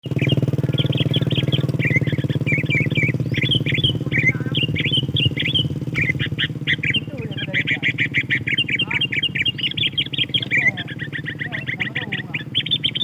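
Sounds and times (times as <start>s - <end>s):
bird chattering calls: 0.0s - 13.0s
small engine running: 0.0s - 13.0s.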